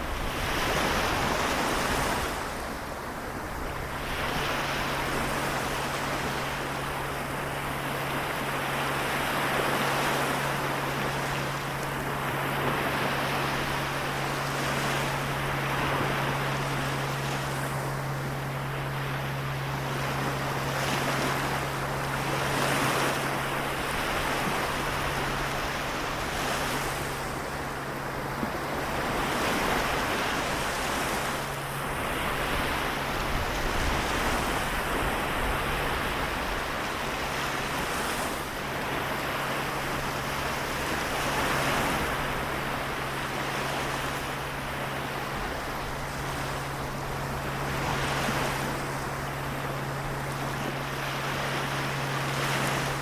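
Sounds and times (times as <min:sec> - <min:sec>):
small waves washing in: 0:00.0 - 0:53.0
steady low hum: 0:00.0 - 0:53.0.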